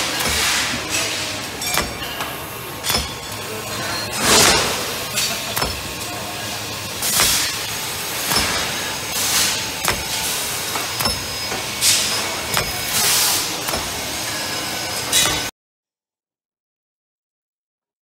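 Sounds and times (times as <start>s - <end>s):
glass cutting machine running: 0.0s - 15.5s
sharp mechanical clicks and knocks: 0.0s - 15.5s.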